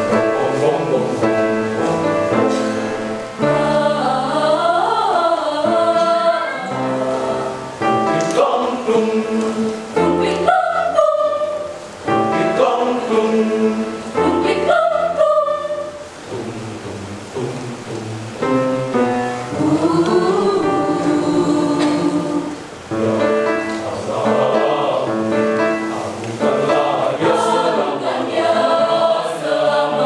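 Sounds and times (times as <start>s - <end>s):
youth choir singing in harmony: 0.0s - 30.0s.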